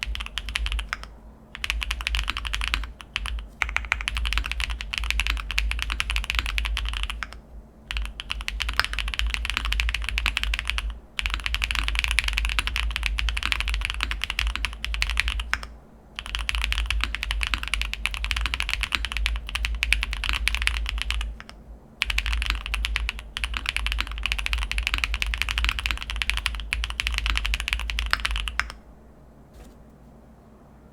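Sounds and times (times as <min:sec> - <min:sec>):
fast typing on mechanical keyboard: 0:00.0 - 0:28.8.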